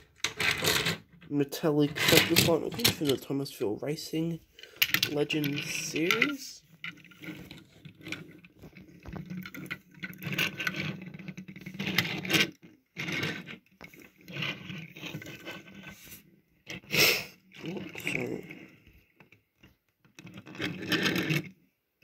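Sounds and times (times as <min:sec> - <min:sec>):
toy cars scraping: 0:00.2 - 0:03.3, 0:04.0 - 0:18.9, 0:20.4 - 0:21.5.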